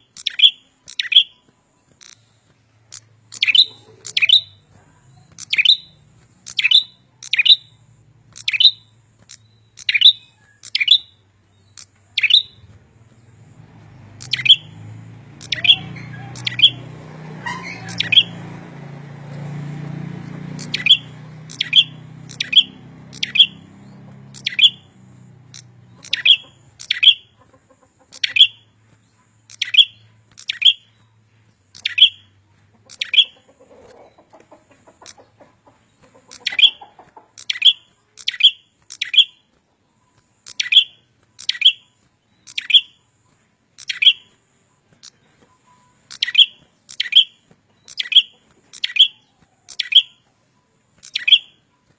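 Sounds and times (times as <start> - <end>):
songbird sharp chirps: 0.0 - 51.9.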